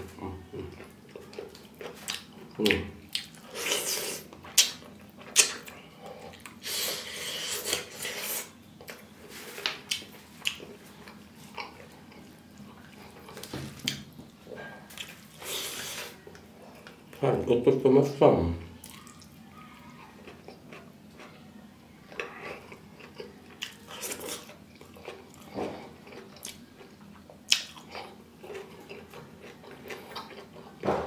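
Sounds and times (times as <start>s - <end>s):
person chewing food: 0.0s - 17.2s, 18.7s - 30.8s.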